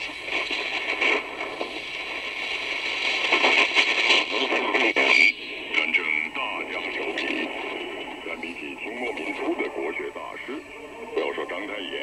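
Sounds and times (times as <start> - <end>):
shortwave radio static: 0.0 - 12.0.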